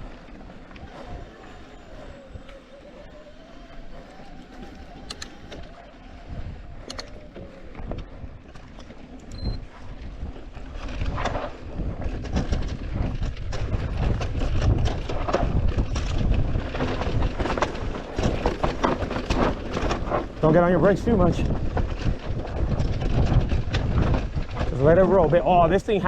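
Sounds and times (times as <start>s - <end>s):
bike clicks and rattles: 0.0s - 26.0s
tyres rumbling over dirt trail: 0.0s - 26.0s
wind buffeting microphone: 0.0s - 26.0s.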